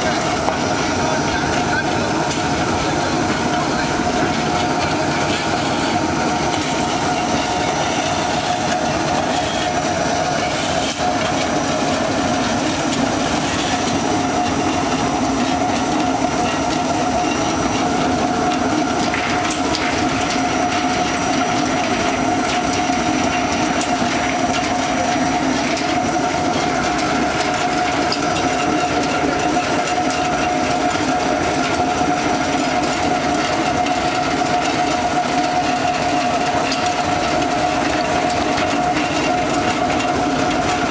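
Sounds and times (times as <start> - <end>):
pellet mill running with whine: 0.0 - 40.9.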